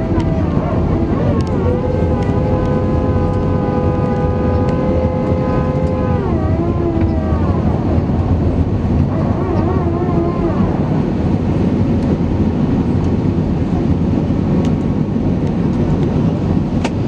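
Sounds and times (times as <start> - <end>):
jet engine cabin rumble: 0.0 - 17.0.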